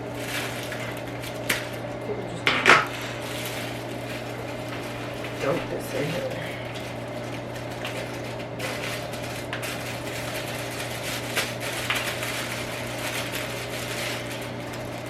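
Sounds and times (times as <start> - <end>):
low electrical hum: 0.0 - 15.0
plastic bag rustling: 0.0 - 15.0.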